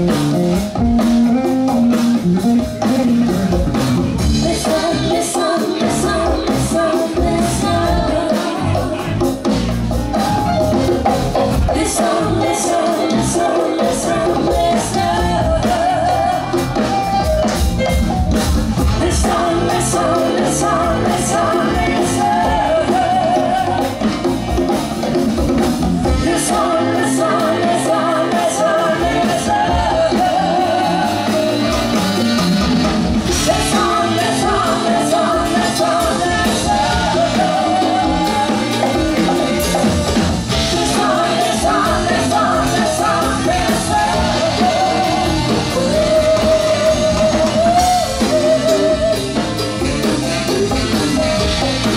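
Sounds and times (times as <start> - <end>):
bass guitar: 0.0 - 51.9
drum kit: 0.0 - 51.9
electric guitar: 0.0 - 51.9
women singing: 4.2 - 9.6, 11.4 - 17.1, 18.8 - 24.8, 26.0 - 32.0, 33.2 - 51.9.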